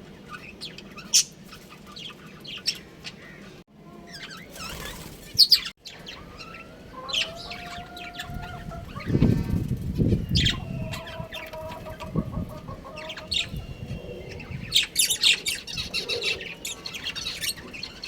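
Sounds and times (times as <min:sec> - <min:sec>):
budgerigars chattering and chirping: 0:00.2 - 0:18.0.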